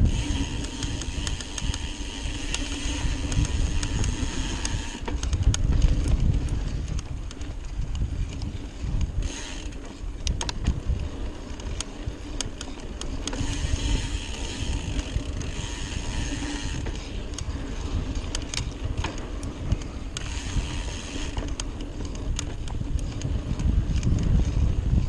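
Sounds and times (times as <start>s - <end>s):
freehub ratcheting buzz: 0.0s - 7.0s, 8.8s - 25.0s
bike rattling clicks: 0.0s - 25.0s
bike tyres rumbling on dirt: 0.0s - 25.0s
wind on microphone: 0.0s - 25.0s.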